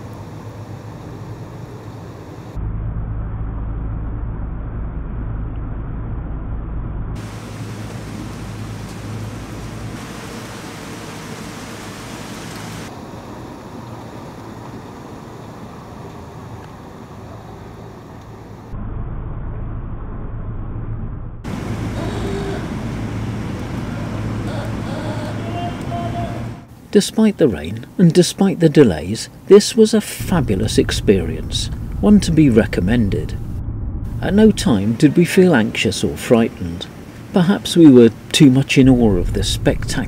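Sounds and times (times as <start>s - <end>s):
diesel boat engine humming: 0.0s - 18.7s, 21.5s - 26.9s, 30.2s - 40.0s.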